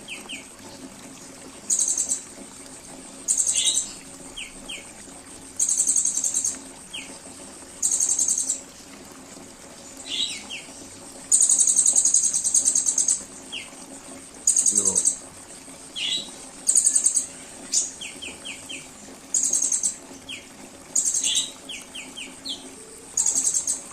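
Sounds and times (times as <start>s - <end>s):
songbird buzzy trills: 0.0s - 23.9s.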